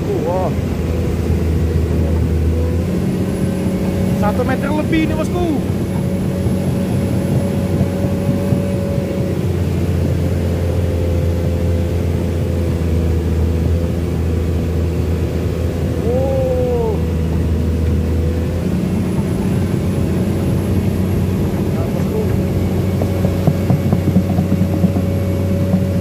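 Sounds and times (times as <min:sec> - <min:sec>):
excavator diesel engine hum: 0:00.0 - 0:26.0
hydraulic whine: 0:00.0 - 0:26.0.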